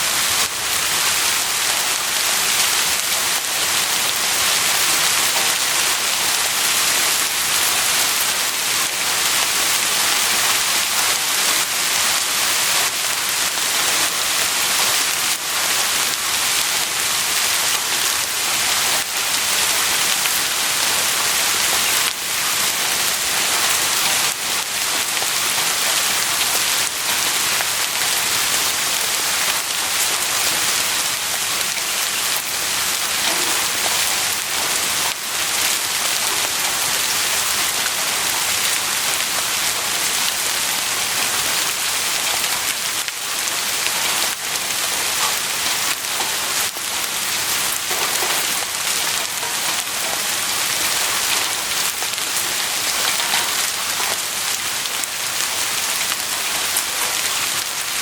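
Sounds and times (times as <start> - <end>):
heavy rain falling: 0.0 - 58.0
individual raindrops: 0.0 - 58.0.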